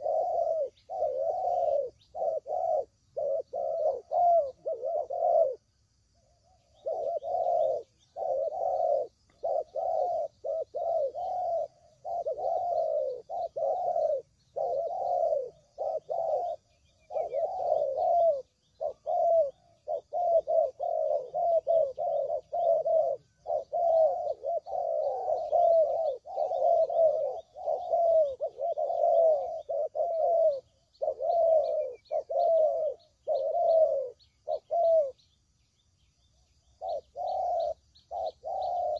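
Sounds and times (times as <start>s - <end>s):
dove cooing: 0.0s - 35.4s, 36.3s - 38.9s
faint high chirping: 0.0s - 38.9s.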